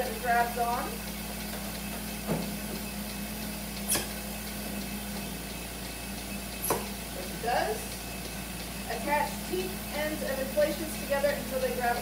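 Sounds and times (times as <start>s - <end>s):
sharp pulsator clicks: 0.0s - 12.0s
vacuum pump humming: 0.0s - 12.0s.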